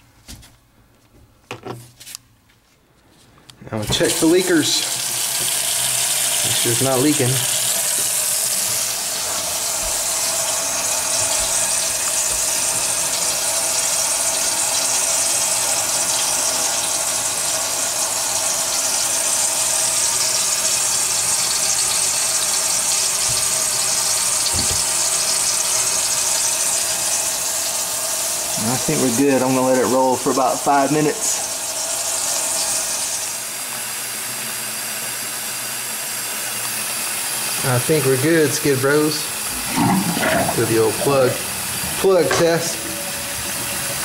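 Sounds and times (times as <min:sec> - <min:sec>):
faucet running into sink: 0:03.8 - 0:44.0.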